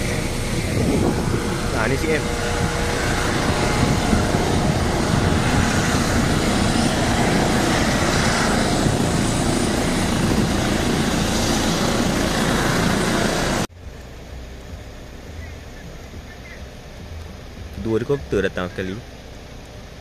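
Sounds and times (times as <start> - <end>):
helicopter turbines and rotors: 0.0 - 20.0.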